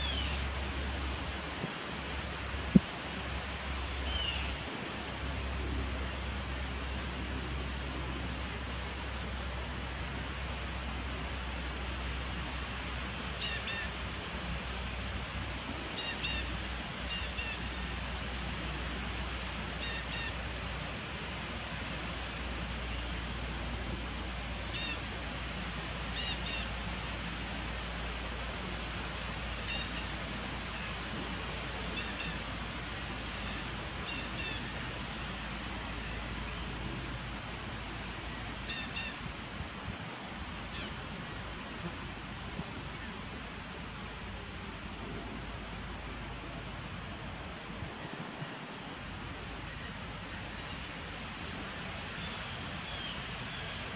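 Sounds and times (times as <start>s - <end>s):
high hiss: 0.0s - 53.9s.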